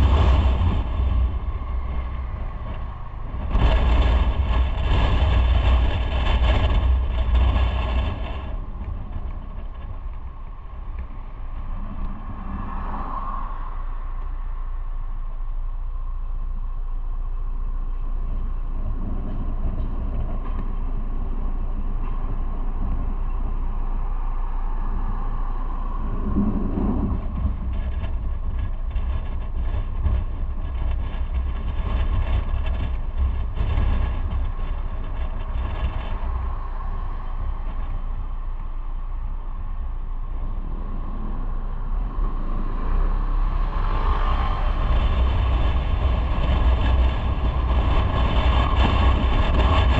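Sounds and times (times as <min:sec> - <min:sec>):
motorcycle engine rumble: 0:00.0 - 0:49.9.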